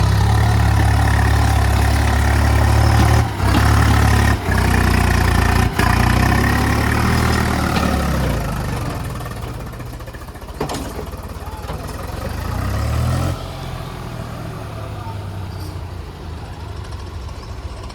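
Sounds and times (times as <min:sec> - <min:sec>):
tractor diesel engine under load: 0:00.0 - 0:17.9.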